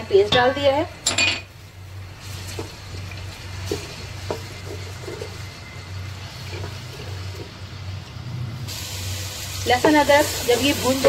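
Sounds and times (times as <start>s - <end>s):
faint sizzle: 0.0s - 11.0s.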